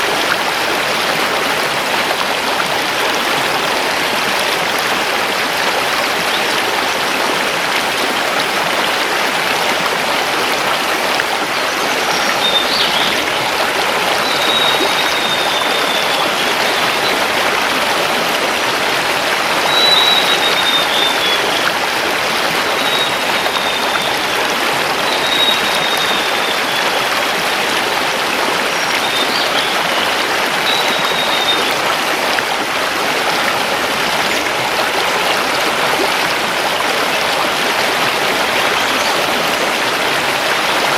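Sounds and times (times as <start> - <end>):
river rushing over stones: 0.0 - 40.9.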